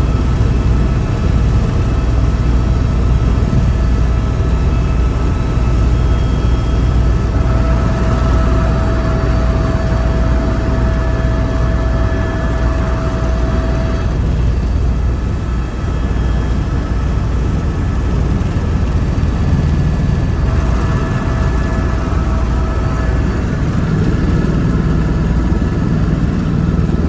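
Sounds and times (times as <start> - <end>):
helicopter rotor and engine drone: 0.0 - 27.0
high-pitched whine: 0.1 - 27.0.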